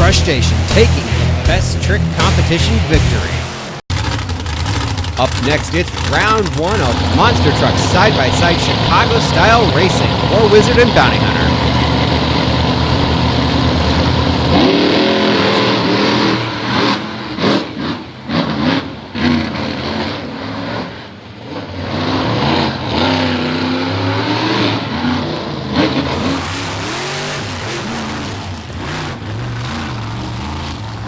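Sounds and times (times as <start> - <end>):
monster truck engines revving: 0.0 - 31.0.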